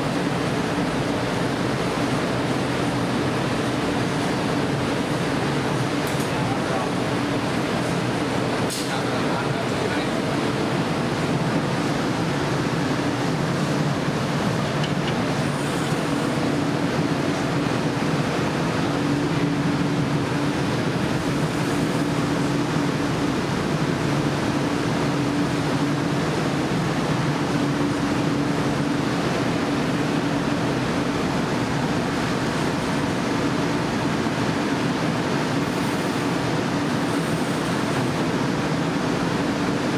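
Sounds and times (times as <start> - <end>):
exhaust fans: 0.0 - 39.9
furnace burners roaring: 0.0 - 39.9.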